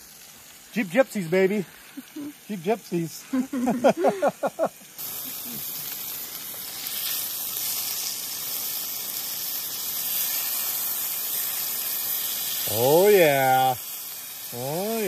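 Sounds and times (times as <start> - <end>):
burger patties sizzling in a pan: 0.0 - 15.0.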